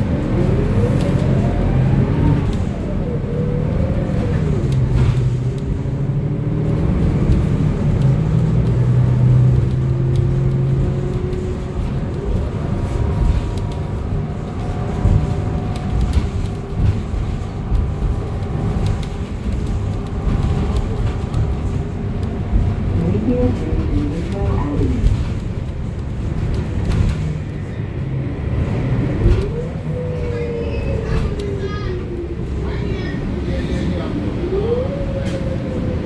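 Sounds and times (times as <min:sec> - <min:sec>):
bus engine running: 0:00.0 - 0:36.0
road and tyre rumble: 0:00.0 - 0:36.0.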